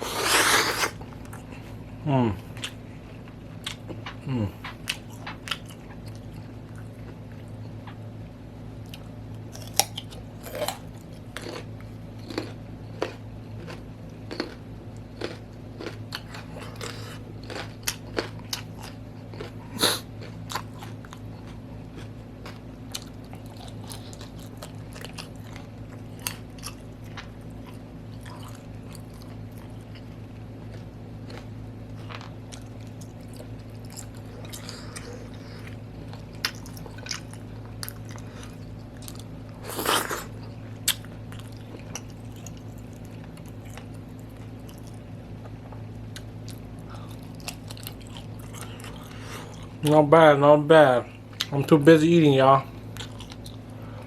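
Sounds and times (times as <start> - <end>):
person chewing food: 0.0 - 8.0, 8.8 - 50.0, 51.1 - 51.5, 52.7 - 54.0
steady low hum: 0.0 - 54.0.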